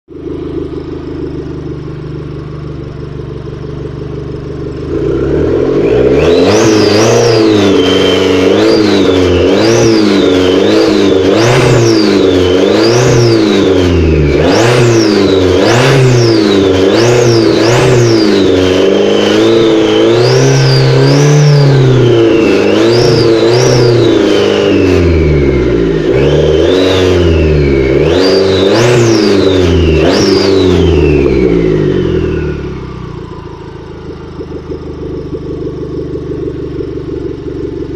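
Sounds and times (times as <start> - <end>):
car engine idling and revving: 0.0 - 37.9
high turbo whine: 0.1 - 37.9.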